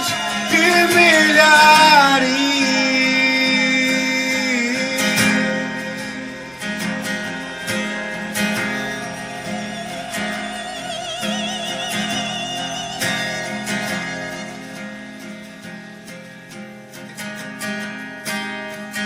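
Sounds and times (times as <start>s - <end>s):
person singing: 0.0s - 15.8s
acoustic guitar: 0.0s - 19.0s.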